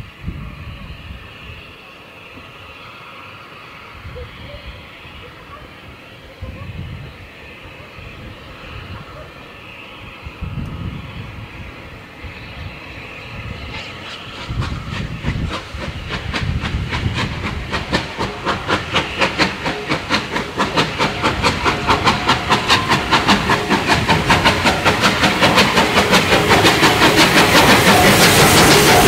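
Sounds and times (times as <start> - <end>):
steam locomotive exhaust beats: 0.0 - 29.0.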